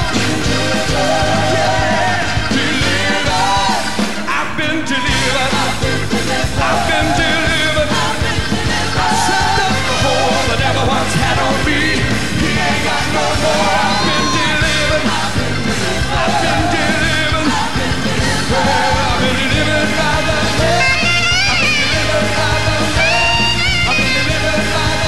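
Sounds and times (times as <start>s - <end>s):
live gospel band music: 0.0s - 25.0s
people singing and calling out: 0.0s - 25.0s.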